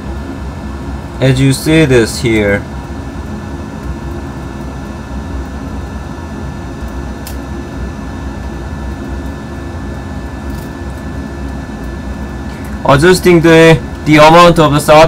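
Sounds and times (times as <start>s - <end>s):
air purifier fan hum: 0.0s - 15.0s
faint high whine: 0.0s - 15.0s.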